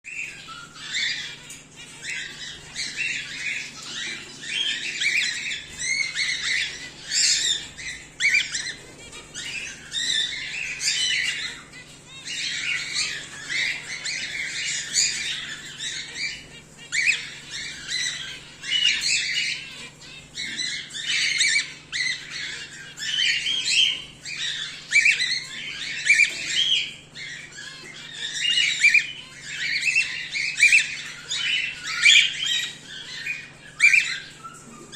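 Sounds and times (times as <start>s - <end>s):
cockatiels chirping and squawking: 0.1s - 34.9s.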